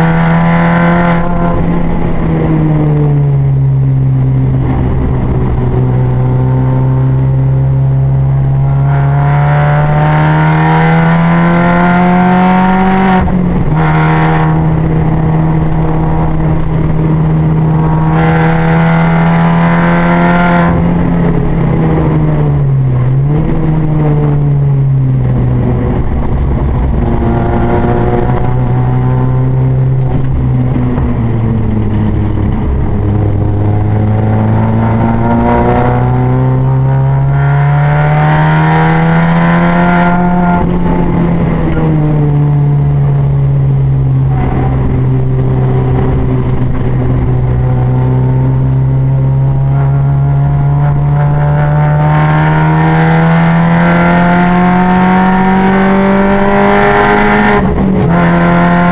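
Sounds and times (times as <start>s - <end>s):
car engine revving hard: 0.0s - 58.9s.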